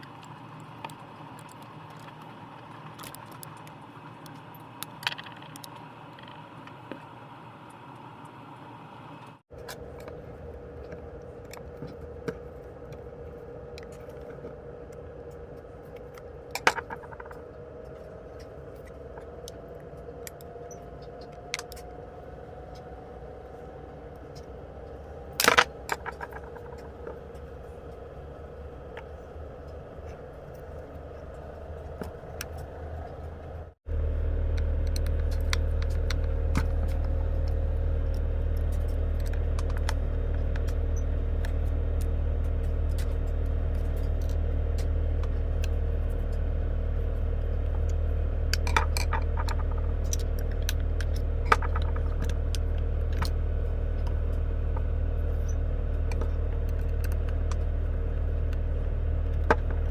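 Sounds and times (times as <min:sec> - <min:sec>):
steady hum: 0:00.0 - 0:59.9
loud low rumble: 0:10.2 - 0:59.9.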